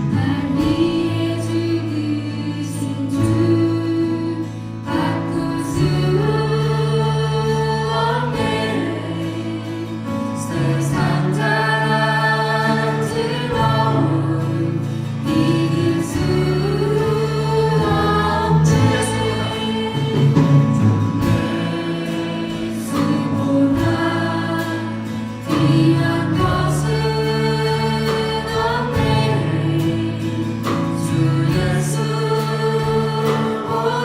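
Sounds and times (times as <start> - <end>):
bass: 0.0 - 34.0
congregation singing in unison: 0.0 - 34.0
sustained keyboard chords: 0.0 - 34.0.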